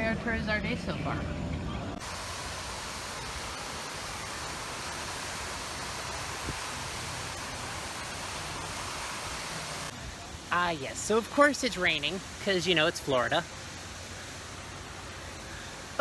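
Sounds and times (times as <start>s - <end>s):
rain falling: 2.0s - 16.0s.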